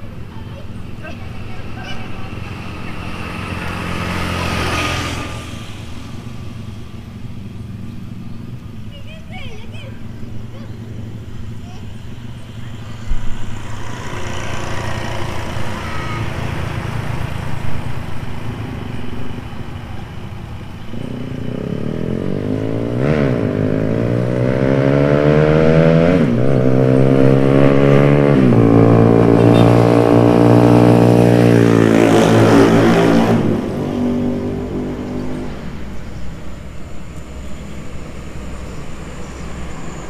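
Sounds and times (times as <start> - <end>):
diesel dump truck accelerating: 0.0 - 40.0
road traffic noise: 0.0 - 40.0.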